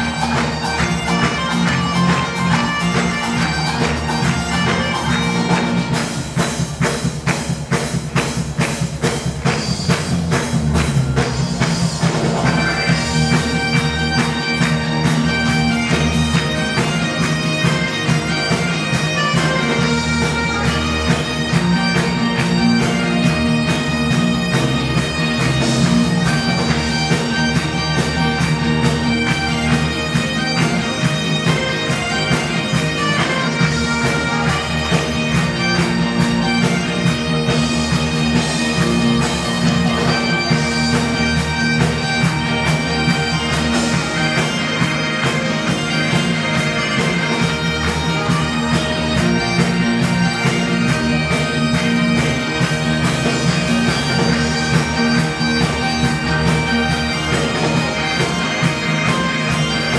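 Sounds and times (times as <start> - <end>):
bagpipe dance tune: 0.0 - 59.9
bagpipe drones: 0.0 - 59.9
fast drum beat: 0.0 - 59.9.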